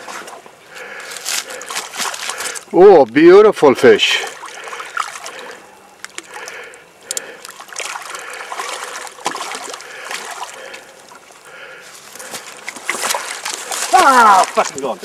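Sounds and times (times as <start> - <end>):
fish splashing in shallow water: 0.0 - 2.7, 4.0 - 15.0
moving water: 0.0 - 15.0.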